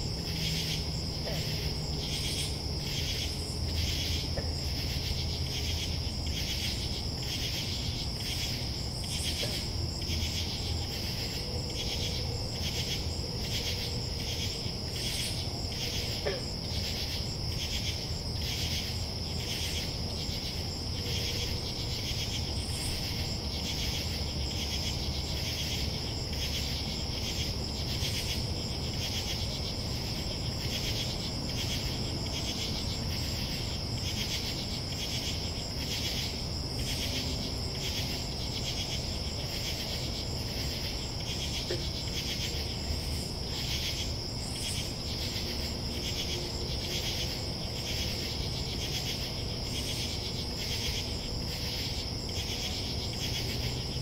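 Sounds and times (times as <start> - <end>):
crickets trilling: 0.0 - 54.0
rhythmic pulsing insect call: 0.0 - 54.0.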